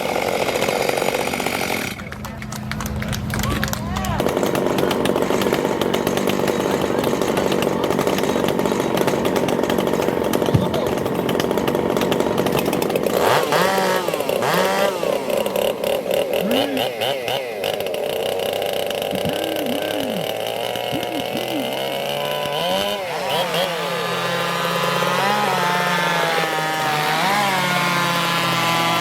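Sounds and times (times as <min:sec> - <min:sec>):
chainsaw engines revving: 0:00.0 - 0:29.0.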